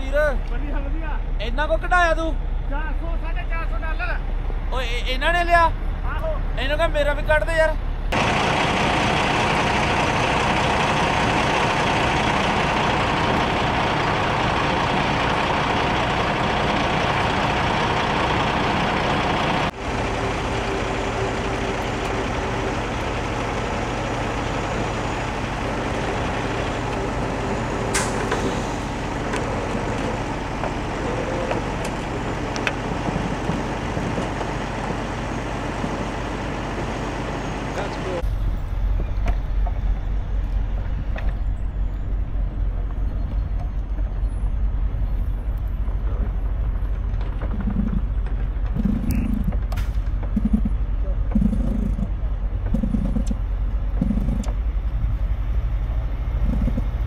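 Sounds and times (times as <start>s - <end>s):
heavy diesel truck engines droning: 0.0s - 57.0s.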